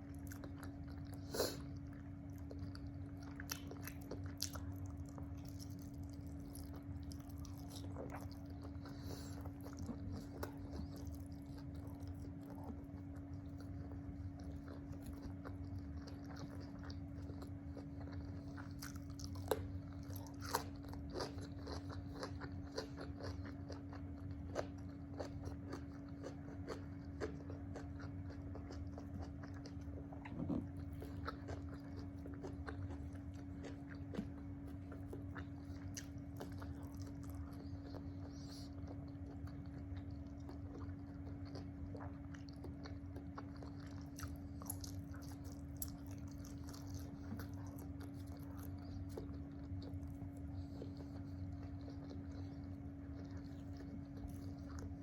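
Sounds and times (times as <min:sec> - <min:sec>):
person chewing crunchy food: 0:00.0 - 0:55.0
steady low hum: 0:00.0 - 0:55.0.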